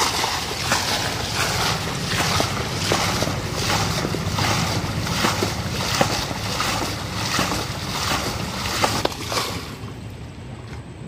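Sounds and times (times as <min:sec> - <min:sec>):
water splashing: 0:00.0 - 0:10.2
steady rushing noise: 0:00.0 - 0:10.6.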